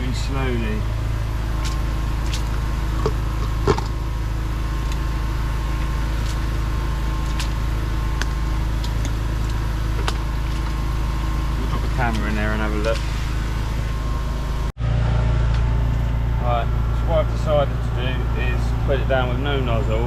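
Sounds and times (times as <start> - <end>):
machine engine running: 0.0 - 20.0.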